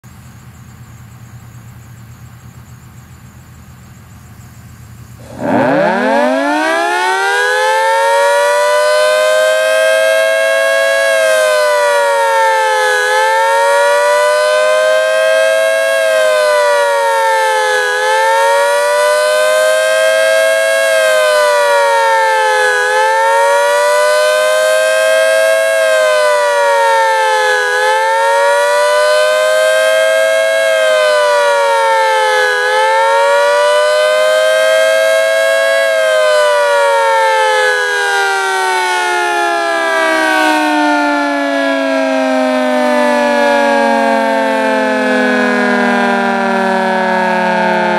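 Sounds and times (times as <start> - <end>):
outdoor warning siren wailing: 5.2 - 47.9.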